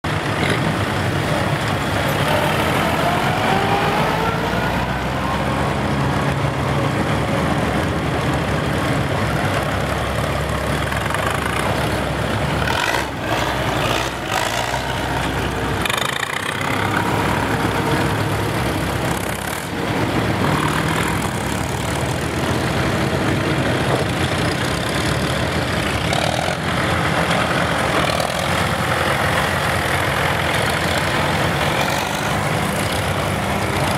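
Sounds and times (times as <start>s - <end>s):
tractor engines passing: 0.0s - 33.9s.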